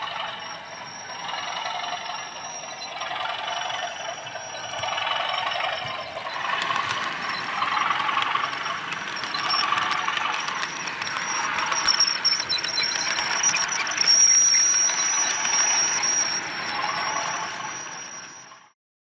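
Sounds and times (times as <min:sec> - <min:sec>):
model train whine: 0:00.0 - 0:18.7
wheels clicking on track: 0:00.0 - 0:18.7.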